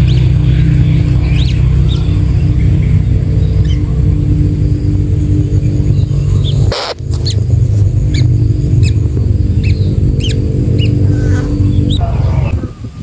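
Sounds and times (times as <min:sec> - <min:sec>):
loud steady low hum: 0:00.0 - 0:13.0.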